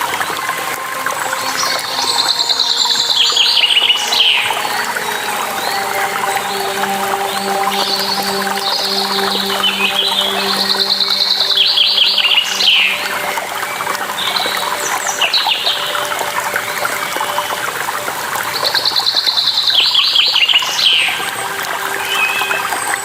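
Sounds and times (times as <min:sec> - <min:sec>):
rushing water: 0:00.0 - 0:23.0
songbird singing: 0:00.1 - 0:23.0.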